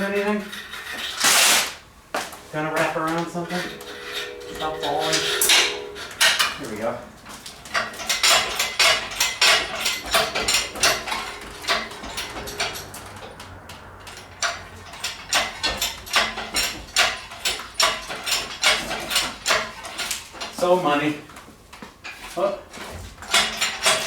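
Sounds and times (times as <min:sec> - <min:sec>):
metal clanking and knocking: 0:02.8 - 0:20.6, 0:22.0 - 0:24.0.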